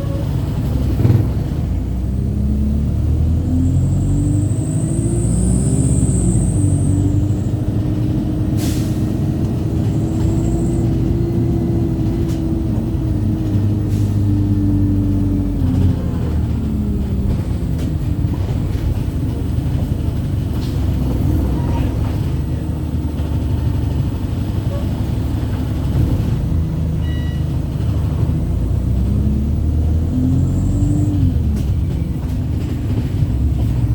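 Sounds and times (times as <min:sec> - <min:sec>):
bus engine whining: 0:00.0 - 0:33.9.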